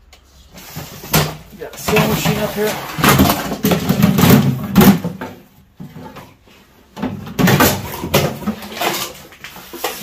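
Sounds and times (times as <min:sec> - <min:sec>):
plastic cover clattering: 0:00.8 - 0:10.0.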